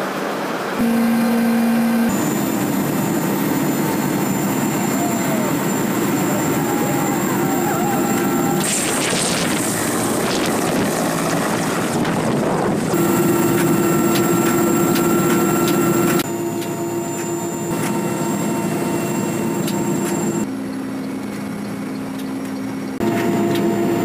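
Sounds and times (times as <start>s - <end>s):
helicopter roar: 0.0s - 24.0s
turbine whine over rotor drone: 0.0s - 24.0s.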